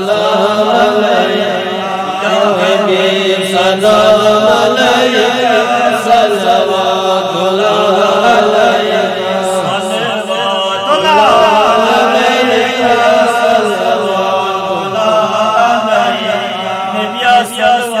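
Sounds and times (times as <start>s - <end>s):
man chanting: 0.0s - 18.0s.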